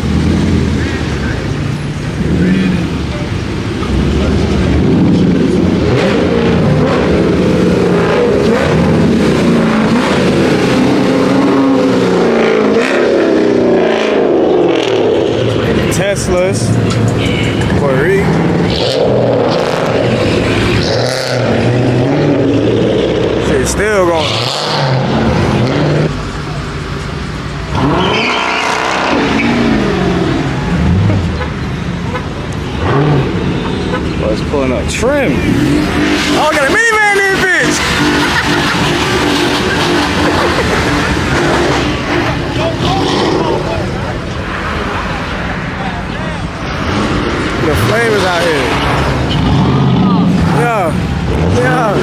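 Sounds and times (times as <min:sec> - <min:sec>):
car engines revving and rumbling: 0:00.0 - 0:52.0.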